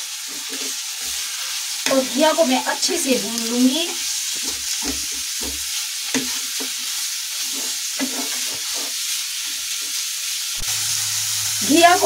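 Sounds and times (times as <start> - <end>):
wooden spatula scraping a pan: 0.0 - 10.3
vegetables sizzling in a pan: 0.0 - 12.0.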